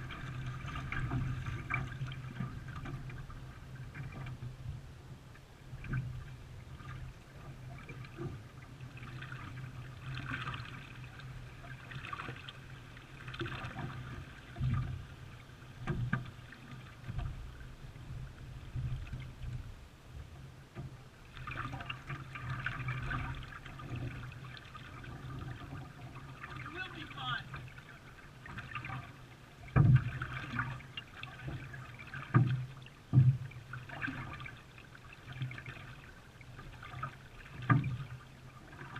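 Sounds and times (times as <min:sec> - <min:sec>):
paddle splashing in water: 0:00.0 - 0:04.6, 0:05.7 - 0:19.7, 0:20.7 - 0:38.9.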